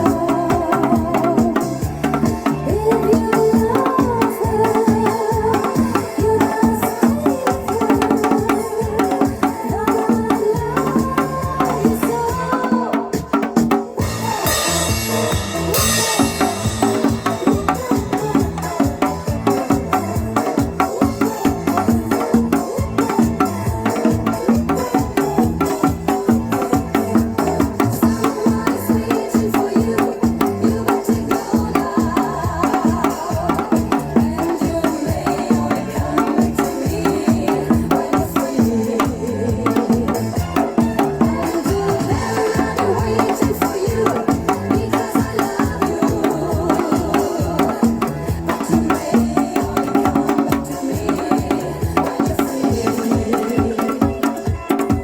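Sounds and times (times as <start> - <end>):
disco backing music: 0.0 - 55.0.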